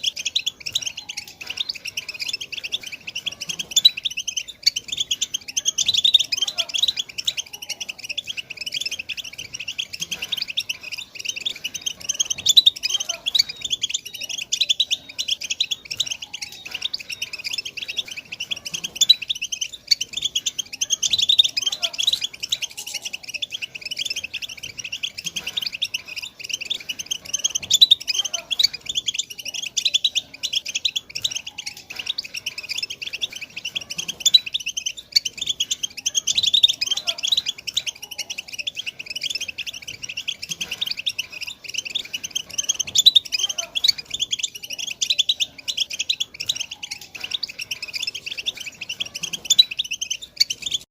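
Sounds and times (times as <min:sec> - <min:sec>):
goldfinch chattering: 0:00.0 - 0:50.9.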